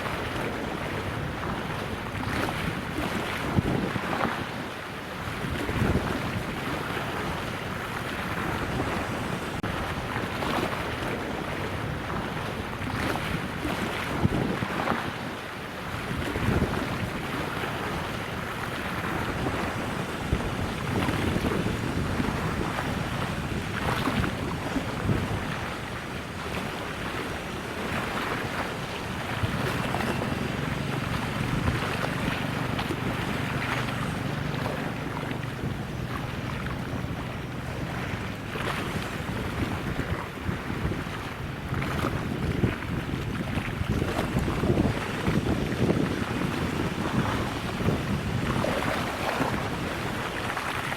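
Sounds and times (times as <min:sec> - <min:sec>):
boat engine drone: 0:00.0 - 0:50.9
wind buffeting microphone: 0:00.0 - 0:50.9.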